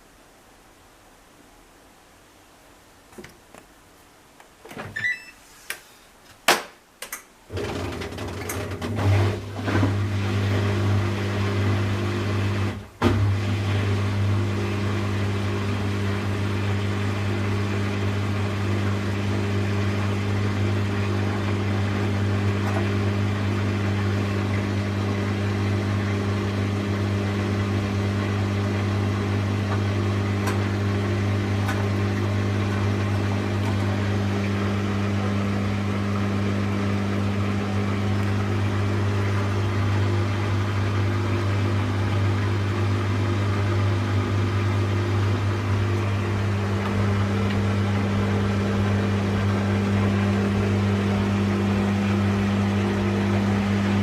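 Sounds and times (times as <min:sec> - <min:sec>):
washing machine humming: 0:07.5 - 0:54.0.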